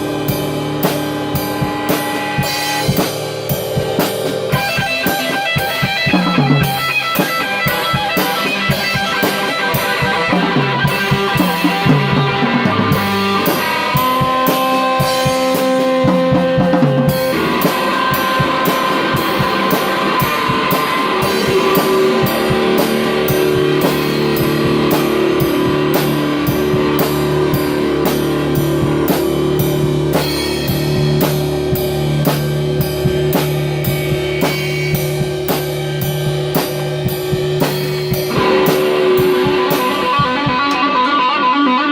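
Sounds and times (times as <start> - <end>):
rapid drum hits: 0.0 - 41.0
low electric guitar notes: 0.0 - 41.9
metal band playing: 0.0 - 41.9.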